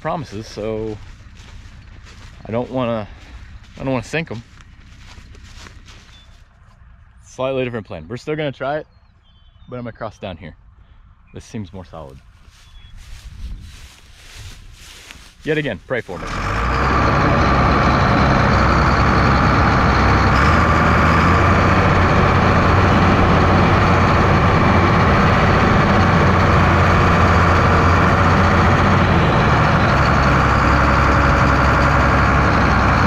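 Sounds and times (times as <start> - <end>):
tractor diesel engine under load: 0.0 - 8.0, 11.8 - 33.0.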